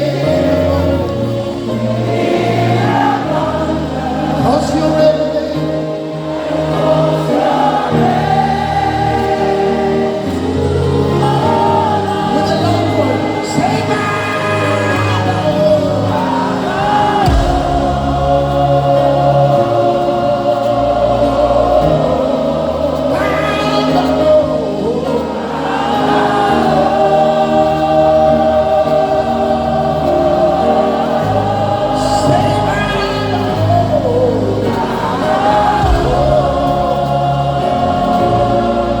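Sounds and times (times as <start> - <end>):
choir singing held notes: 0.0 - 39.0
sustained musical backing: 0.0 - 39.0.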